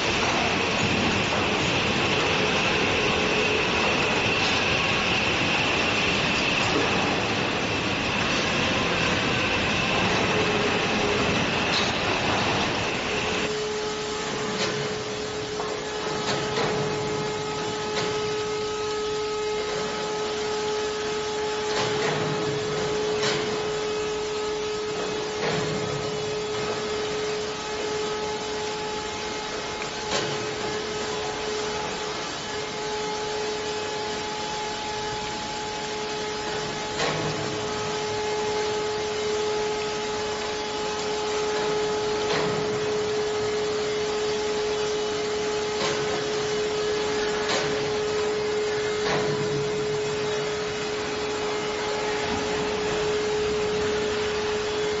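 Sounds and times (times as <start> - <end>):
furnace high hum and hiss: 0.0 - 55.0.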